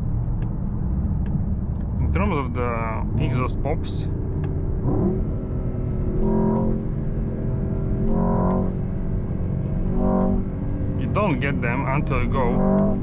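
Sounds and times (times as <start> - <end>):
car engine droning from inside: 0.0 - 13.0.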